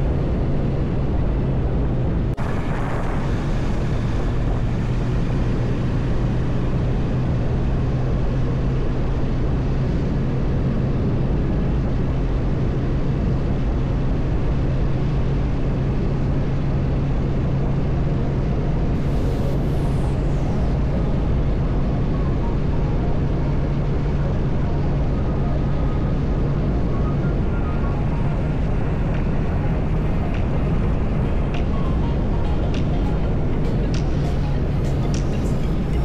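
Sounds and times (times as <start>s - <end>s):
motorcycle engine drone: 0.0s - 36.0s
wind rush on microphone: 0.0s - 36.0s.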